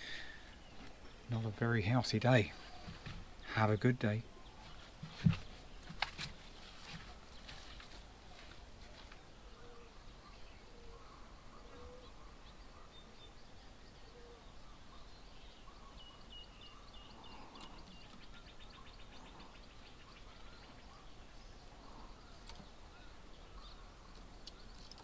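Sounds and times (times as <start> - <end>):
distant bird calls: 0.0 - 25.0.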